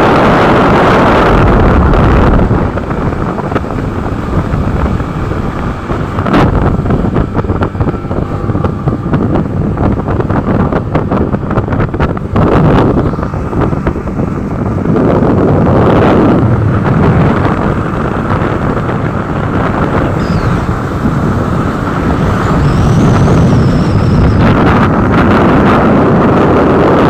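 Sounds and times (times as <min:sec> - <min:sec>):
vehicle and road noise: 0:00.0 - 0:27.0
wind buffeting microphone: 0:00.0 - 0:27.0.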